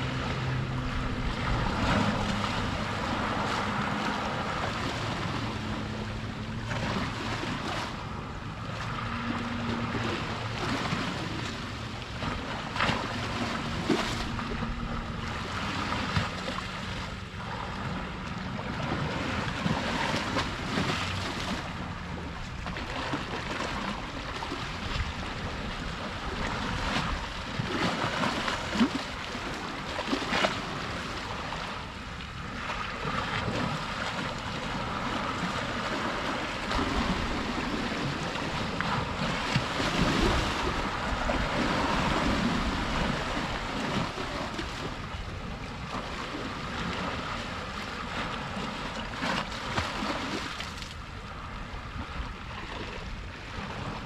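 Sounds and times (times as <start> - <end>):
waves lapping on shore: 0.0 - 54.0.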